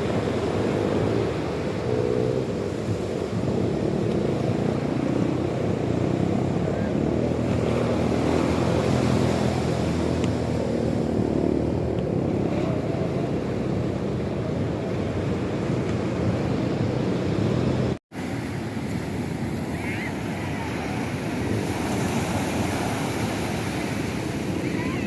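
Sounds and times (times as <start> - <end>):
sea waves: 0.0 - 25.0.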